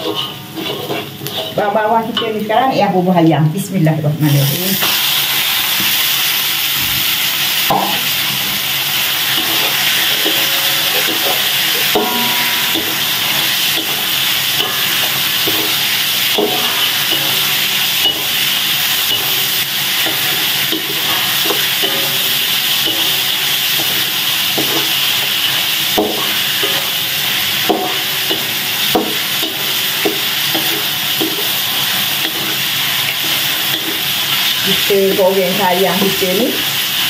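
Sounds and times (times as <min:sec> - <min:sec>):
spatula scraping and tapping wok: 0:00.0 - 0:02.6, 0:07.0 - 0:36.8
chicken sizzling in hot oil: 0:00.0 - 0:03.0, 0:04.2 - 0:37.0.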